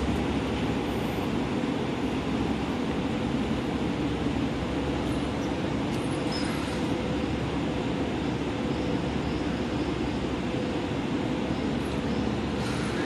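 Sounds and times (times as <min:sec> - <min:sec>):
faint steady hum: 0:00.0 - 0:13.0
train low rumble: 0:00.0 - 0:13.0.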